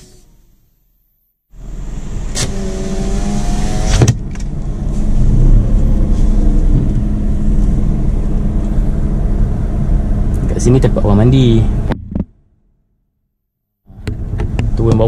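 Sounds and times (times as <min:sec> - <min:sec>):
car engine and road rumble: 0:00.0 - 0:12.8, 0:13.8 - 0:15.0.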